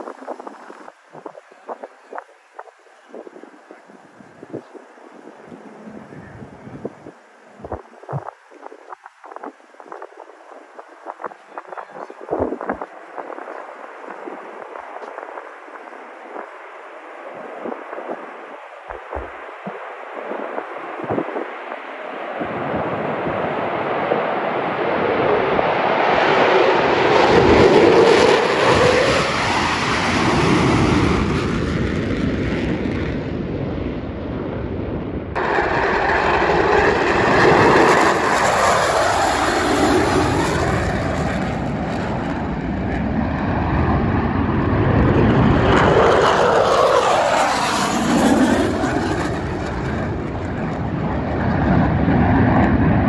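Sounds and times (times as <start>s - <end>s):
jet passing overhead: 0.0s - 53.0s
jets taking off: 0.0s - 53.0s.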